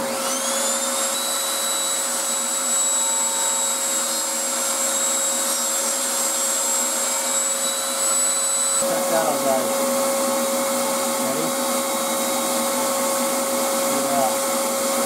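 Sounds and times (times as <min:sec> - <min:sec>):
vacuum motor whining: 0:00.0 - 0:15.0.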